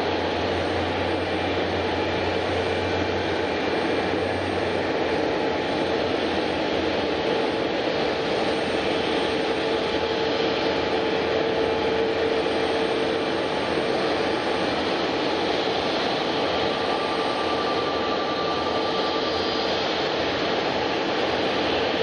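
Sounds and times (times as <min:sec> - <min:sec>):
faint engine whine: 0:00.0 - 0:22.0
high engine whine: 0:00.0 - 0:22.0
jet engines rushing: 0:00.0 - 0:22.0.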